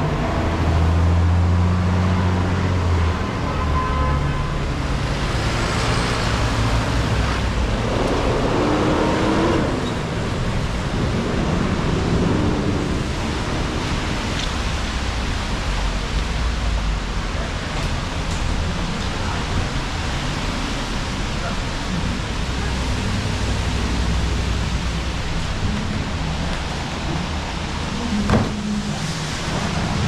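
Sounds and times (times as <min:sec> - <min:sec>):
passing engines rumbling: 0:00.0 - 0:30.0
tyres hissing on wet road: 0:00.0 - 0:30.0.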